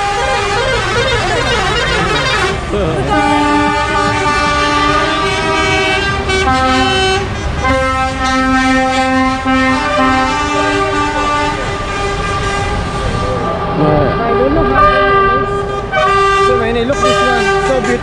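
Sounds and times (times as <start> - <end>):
diesel truck engines rumbling: 0.0 - 18.0
truck air horns blasting: 0.0 - 18.0.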